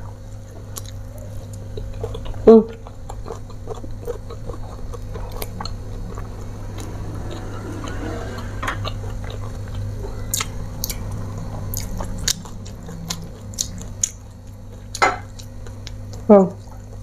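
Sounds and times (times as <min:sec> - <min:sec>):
steady low hum: 0:00.0 - 0:17.0
person chewing and biting food: 0:00.4 - 0:17.0.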